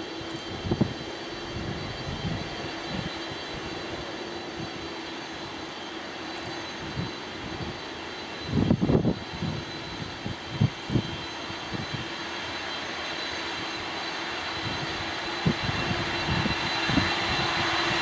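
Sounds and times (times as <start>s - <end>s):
jet engines humming: 0.0s - 18.0s.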